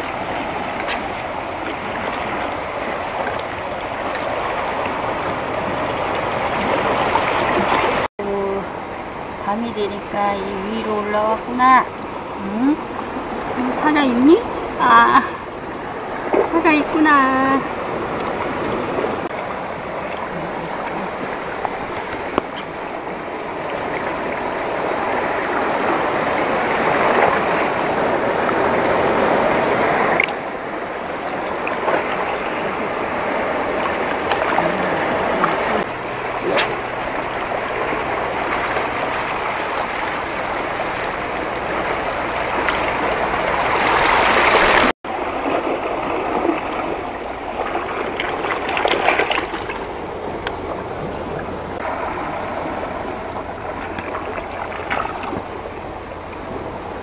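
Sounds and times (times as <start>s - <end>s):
seawater washing over rocks: 0.0s - 57.0s.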